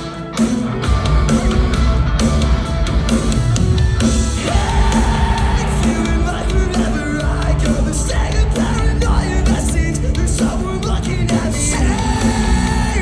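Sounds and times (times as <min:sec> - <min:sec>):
distorted electric guitars: 0:00.0 - 0:13.0
pounding drums: 0:00.7 - 0:13.0.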